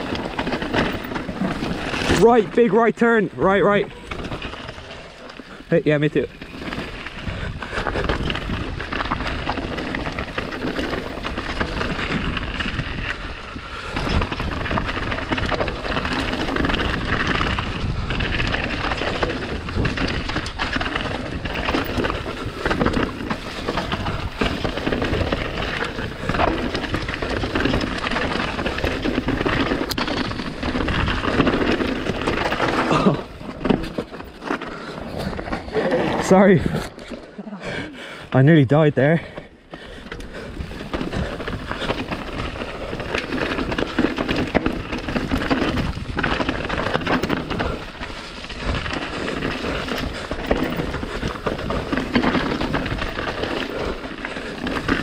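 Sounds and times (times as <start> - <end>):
bike clattering and rattling: 0.0 - 55.0
tyres rolling over rocky ground: 0.0 - 55.0.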